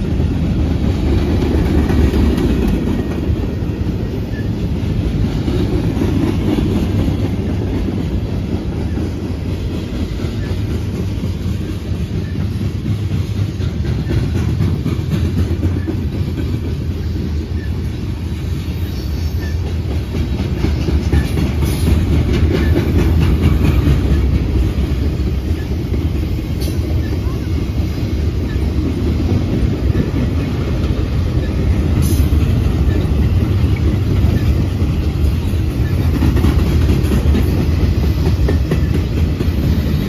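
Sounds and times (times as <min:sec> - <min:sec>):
freight cars rumbling on rails: 0:00.0 - 0:40.0
wheels clicking over rail joints: 0:00.0 - 0:40.0.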